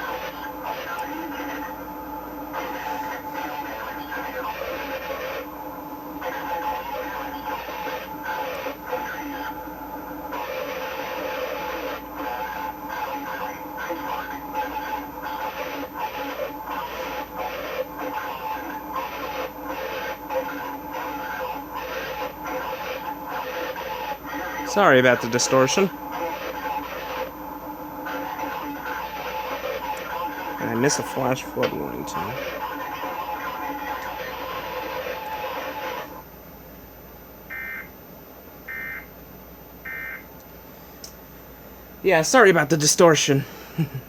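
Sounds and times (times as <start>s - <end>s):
harsh distorted buzz: 0.0s - 36.3s
steady tones: 1.1s - 36.2s, 42.0s - 43.6s.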